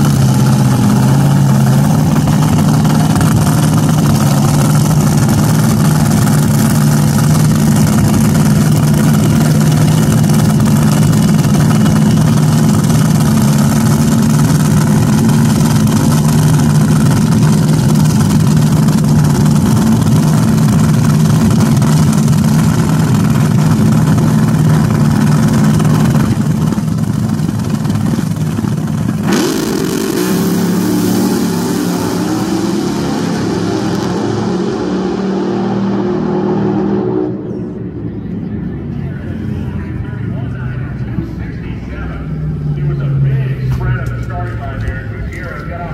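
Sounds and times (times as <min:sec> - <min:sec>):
dragster engines idling: 0:00.0 - 0:36.2, 0:37.2 - 0:45.9
wavering higher engine note: 0:00.0 - 0:45.9.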